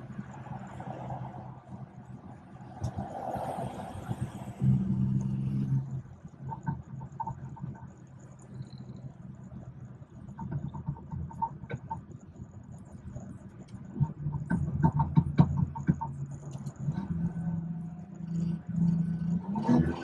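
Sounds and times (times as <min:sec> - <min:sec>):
car engine low hum: 0:00.0 - 0:20.0.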